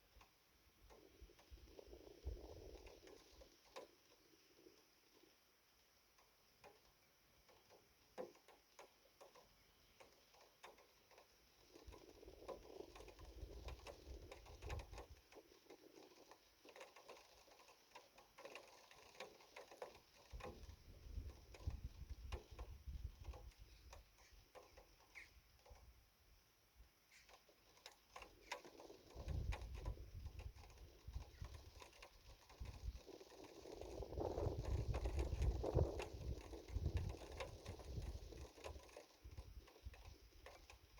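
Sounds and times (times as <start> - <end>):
faint rain patter: 0.0 - 40.9.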